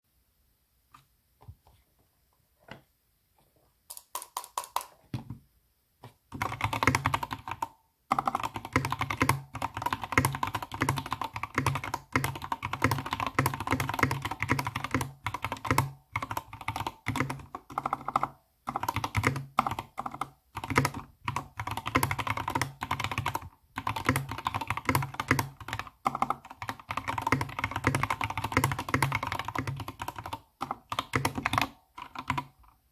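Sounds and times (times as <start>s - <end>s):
typing on computer keyboard: 3.9s - 5.0s, 6.3s - 32.9s.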